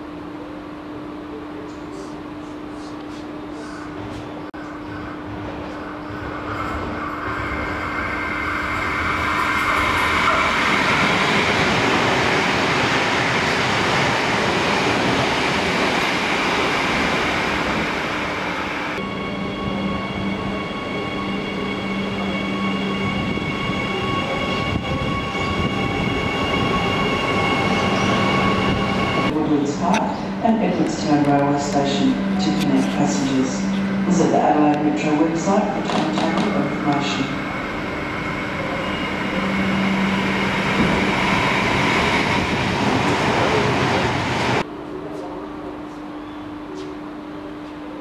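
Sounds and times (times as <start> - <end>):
train rumble: 1.4 - 46.0
electric train passing at speed: 3.6 - 45.7.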